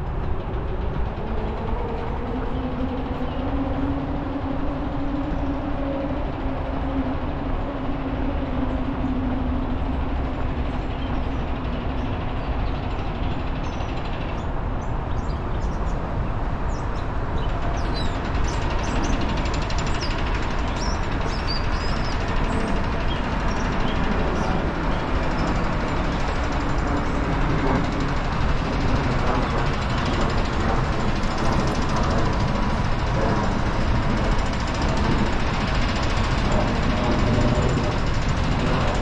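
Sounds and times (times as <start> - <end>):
low droning hum: 0.0 - 39.0
passing traffic rumble: 0.0 - 39.0.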